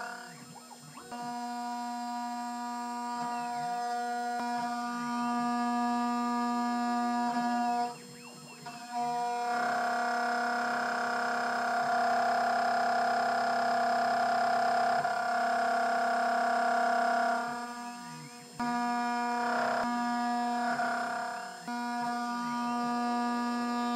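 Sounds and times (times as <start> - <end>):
milling machine whine: 0.0 - 23.9.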